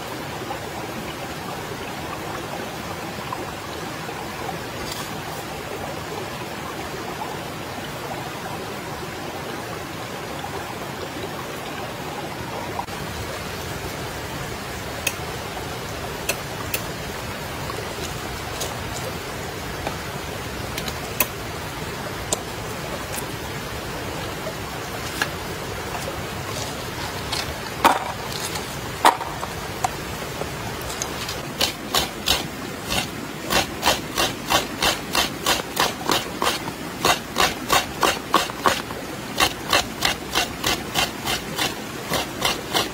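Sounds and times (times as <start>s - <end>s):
flowing river water: 0.0s - 42.9s.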